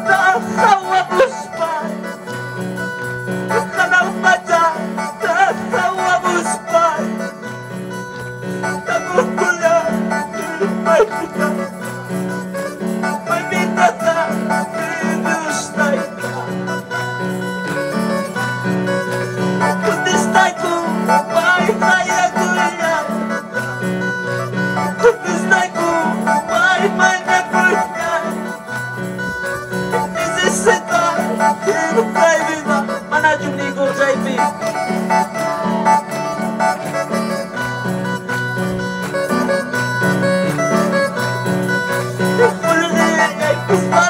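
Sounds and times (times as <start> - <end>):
keyboard worship music: 0.0 - 44.0.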